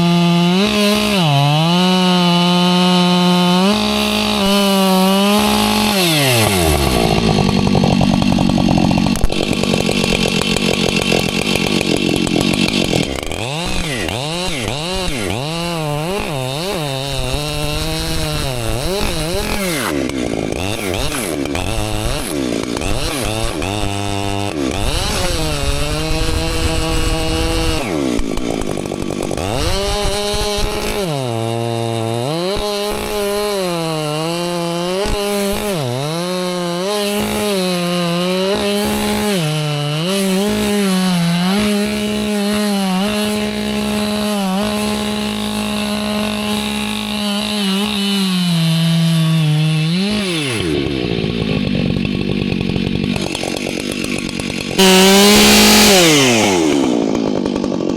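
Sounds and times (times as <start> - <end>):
chainsaw cutting at full throttle: 0.0 - 57.9.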